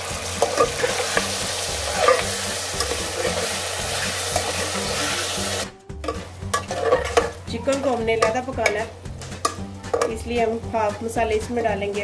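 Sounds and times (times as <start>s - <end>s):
chicken sizzling in hot oil: 0.0s - 10.0s
spatula scraping a pan: 0.2s - 5.5s, 6.1s - 11.7s.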